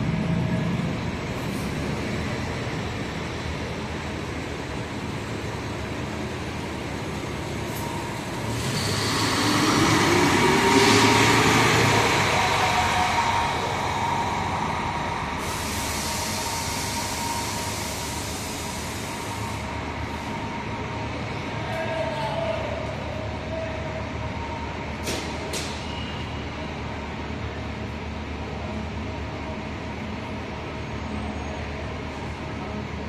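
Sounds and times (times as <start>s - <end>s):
bus engine accelerating: 0.0s - 33.0s.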